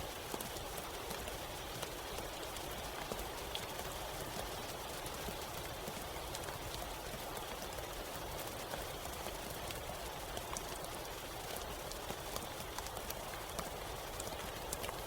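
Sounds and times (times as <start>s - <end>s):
rain falling in a forest: 0.0s - 15.0s
raindrops ticking close by: 0.0s - 15.0s.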